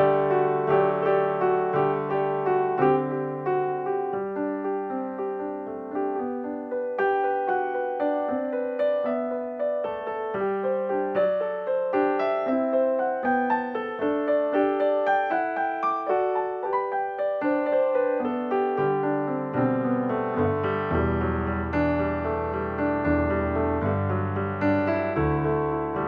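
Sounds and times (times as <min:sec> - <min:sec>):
background piano music: 0:00.0 - 0:26.0.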